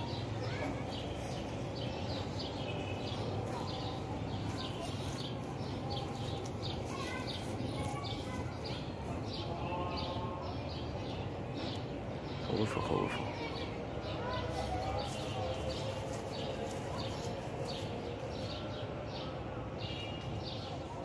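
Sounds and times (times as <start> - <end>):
birds chirping: 0.0 - 21.0
outdoor background noise: 0.0 - 21.0.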